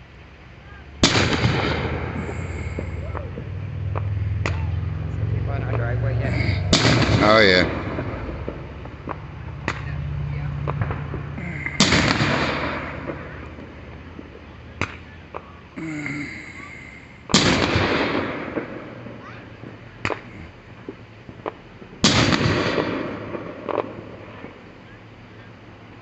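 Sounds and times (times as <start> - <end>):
fireworks booming with echo: 0.0 - 26.0
sharp firework cracks: 1.0 - 24.7.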